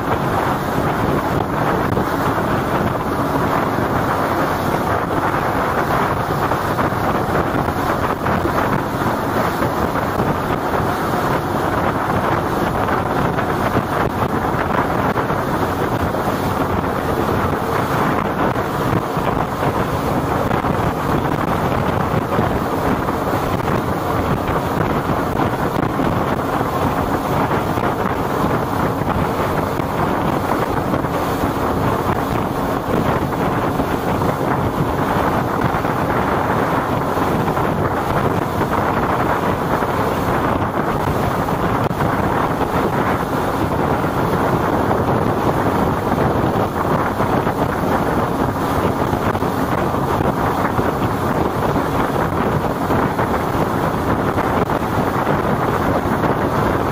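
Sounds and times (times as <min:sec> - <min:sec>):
boat engine droning: 0:00.0 - 0:56.9
water rushing past: 0:00.0 - 0:56.9
wind buffeting microphone: 0:00.0 - 0:56.9.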